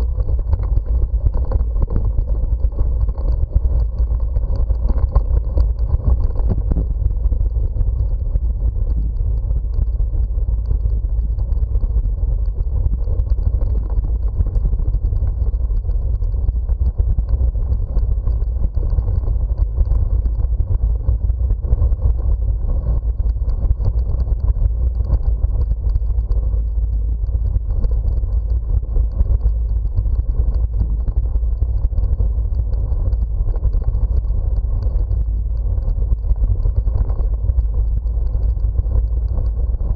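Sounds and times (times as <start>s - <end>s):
bicycle tyres rolling on road: 0.0s - 39.9s
wind buffeting microphone: 0.0s - 39.9s.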